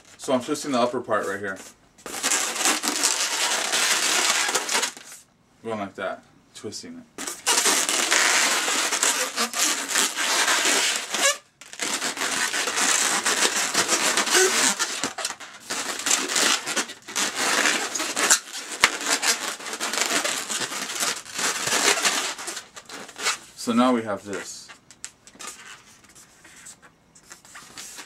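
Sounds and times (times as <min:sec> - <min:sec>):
balloons rubbing and squeaking: 0:00.0 - 0:00.2, 0:01.2 - 0:05.2, 0:07.2 - 0:23.6, 0:24.3 - 0:28.0.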